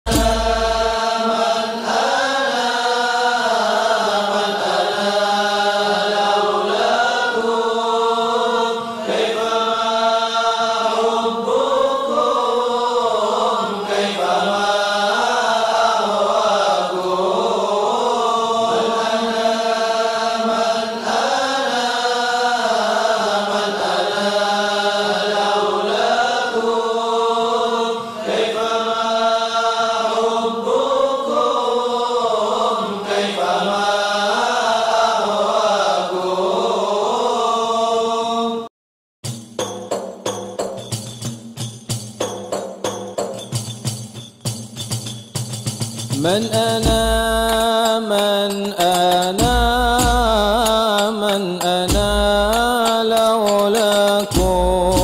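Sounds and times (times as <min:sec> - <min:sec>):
a cappella devotional chant: 0:00.1 - 0:38.7, 0:46.0 - 0:55.0
held vocal drone: 0:00.1 - 0:38.7, 0:46.2 - 0:55.0.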